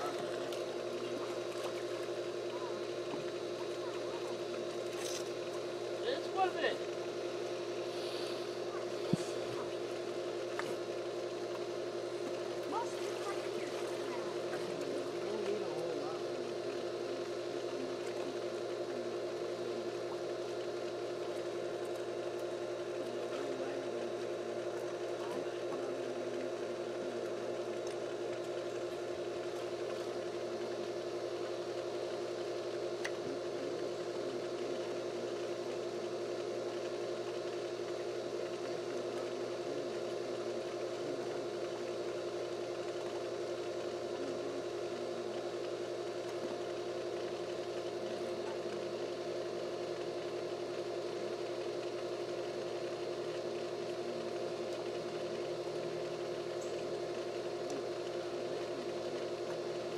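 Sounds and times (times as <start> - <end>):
motor humming: 0.0 - 59.9.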